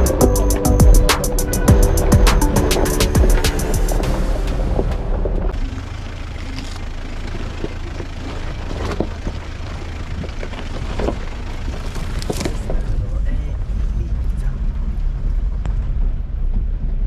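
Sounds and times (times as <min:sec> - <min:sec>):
vehicle engine running low: 0:00.0 - 0:17.0.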